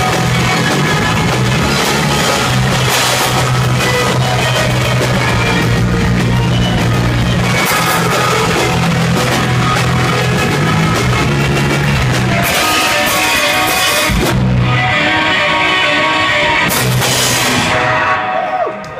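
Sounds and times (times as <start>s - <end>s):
rock band playing live: 0.0s - 18.9s.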